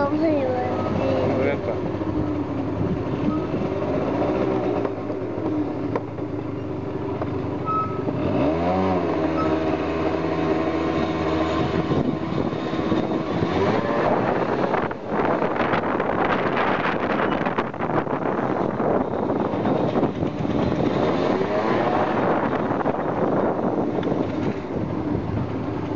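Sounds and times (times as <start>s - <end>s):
motorcycle engine revving: 0.0s - 6.2s, 7.3s - 25.9s.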